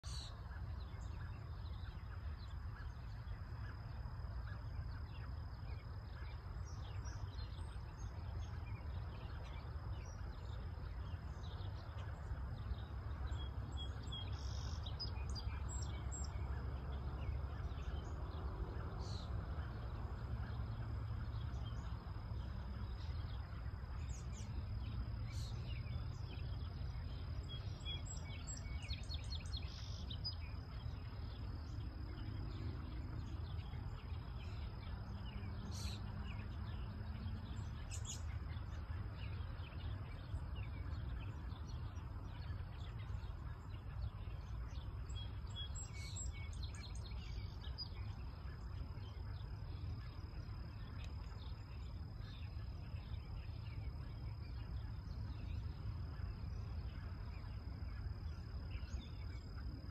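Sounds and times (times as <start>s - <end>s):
bird chirps: 0.0s - 59.9s.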